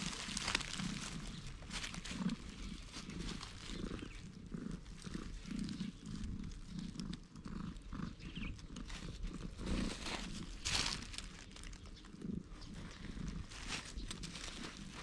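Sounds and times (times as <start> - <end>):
cat purring: 0.0 - 15.0
rustle of grass and leaves: 0.0 - 15.0.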